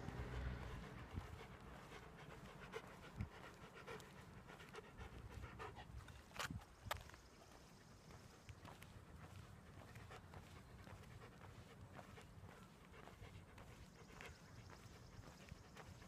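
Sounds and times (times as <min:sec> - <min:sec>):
dog panting: 0:00.0 - 0:06.5, 0:07.3 - 0:16.0.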